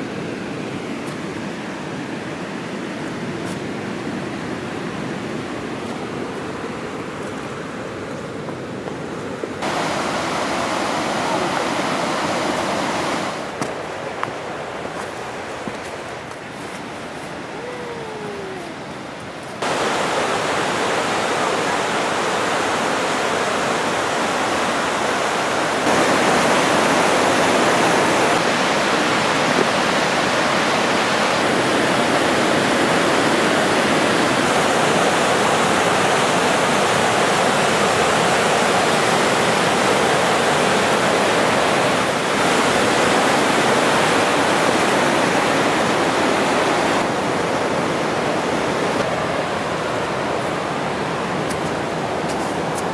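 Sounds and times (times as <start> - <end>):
whitewater rapids roaring: 0.0 - 52.9.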